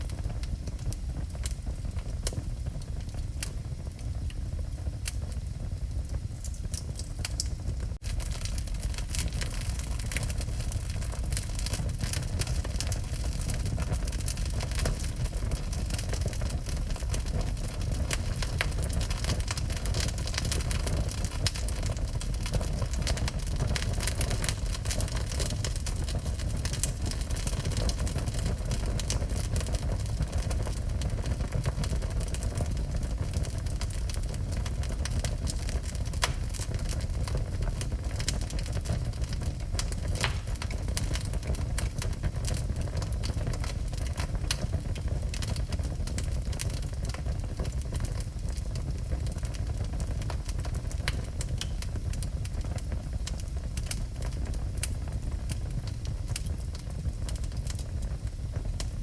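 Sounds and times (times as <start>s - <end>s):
fire low rumble: 0.0s - 59.0s
wood fire crackling: 0.0s - 59.0s.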